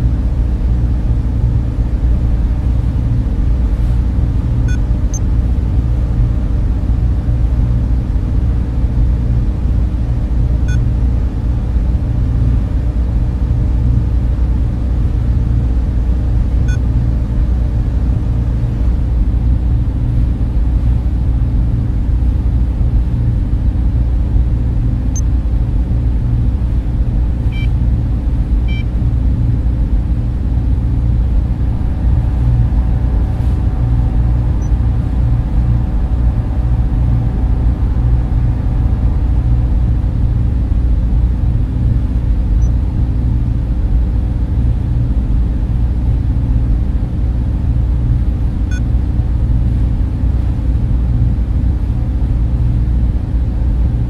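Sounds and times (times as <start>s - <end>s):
cooling fans droning: 0.0s - 54.0s.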